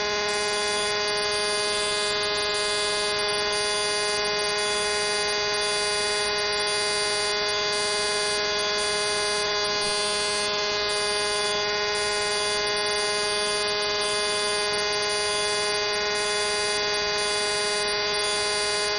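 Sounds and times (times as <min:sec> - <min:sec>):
electrical hum and whine: 0:00.0 - 0:18.9.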